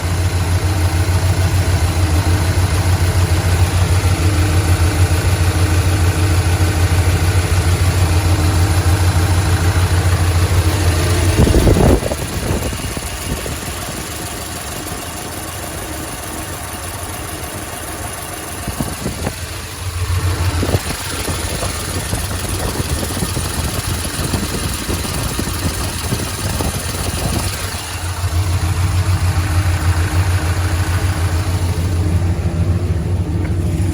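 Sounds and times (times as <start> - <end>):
car engine idling: 0.0 - 33.9
engine ticking: 0.0 - 33.9.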